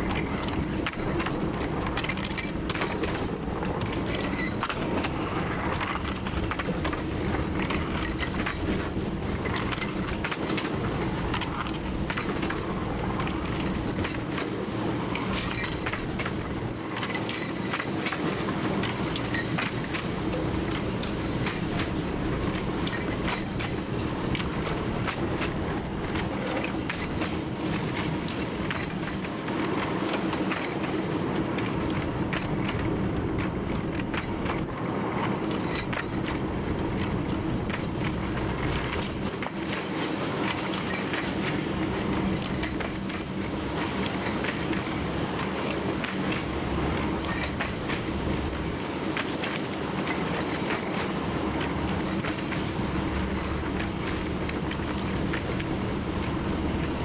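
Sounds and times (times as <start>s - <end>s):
diesel locomotive engine drone: 0.0s - 57.0s
wheels clicking over track: 0.0s - 57.0s.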